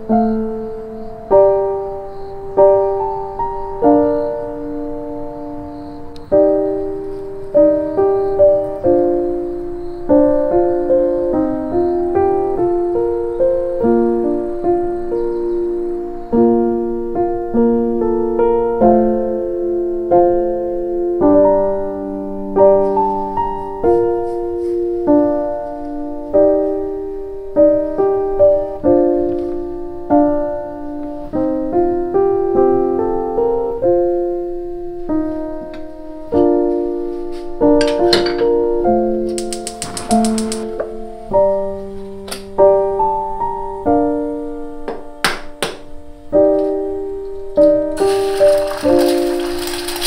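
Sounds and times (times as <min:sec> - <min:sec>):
piano music: 0:00.0 - 0:50.0.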